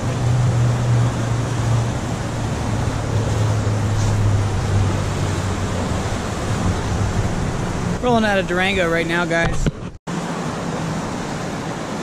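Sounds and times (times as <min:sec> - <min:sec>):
river rapids rushing: 0:00.0 - 0:09.4, 0:10.1 - 0:12.0.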